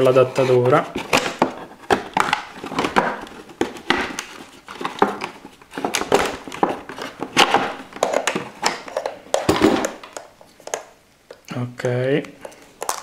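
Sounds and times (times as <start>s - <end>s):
packaging crinkling and rustling: 0.0s - 10.9s, 12.4s - 13.0s.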